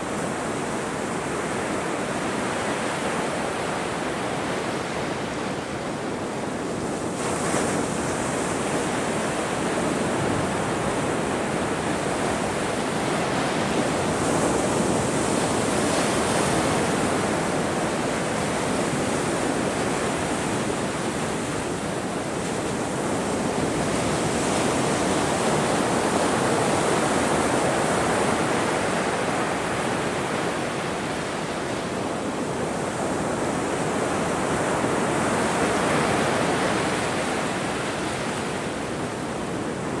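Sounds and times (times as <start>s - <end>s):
ocean waves breaking: 0.0s - 40.0s.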